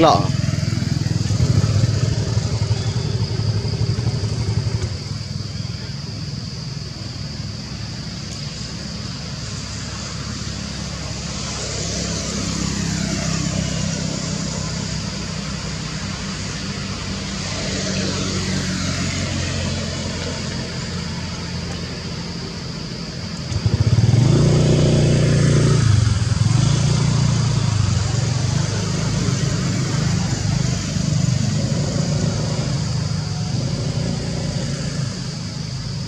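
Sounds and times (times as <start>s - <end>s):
vehicles passing: 0.0s - 36.0s.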